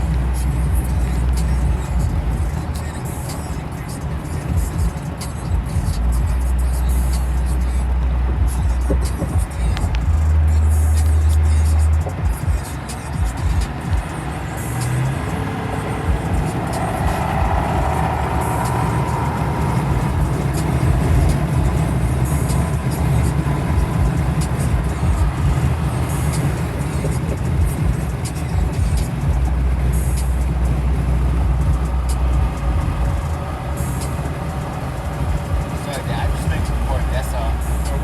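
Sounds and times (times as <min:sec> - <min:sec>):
deep hum: 0:00.0 - 0:38.0
motor vehicle rumble with road noise: 0:00.0 - 0:38.0.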